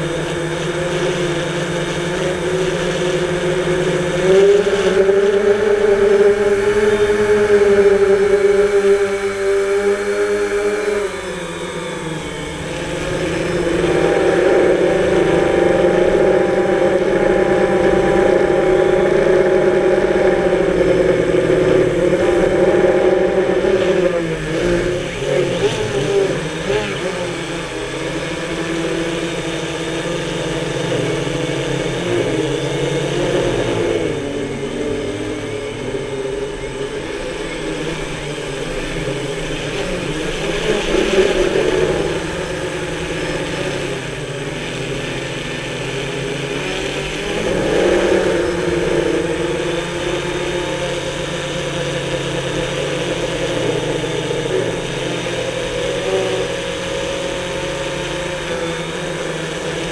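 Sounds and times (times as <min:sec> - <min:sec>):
drone propellers whirring: 0:00.0 - 0:59.9.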